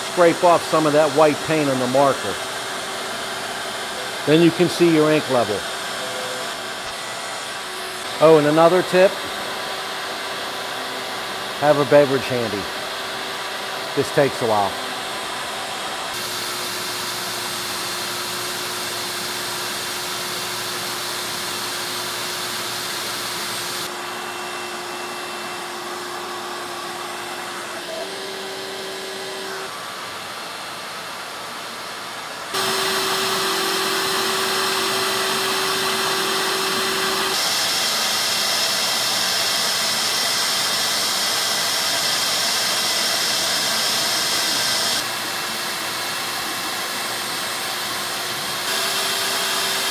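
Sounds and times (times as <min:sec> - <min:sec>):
router motors humming: 0:00.0 - 0:49.9.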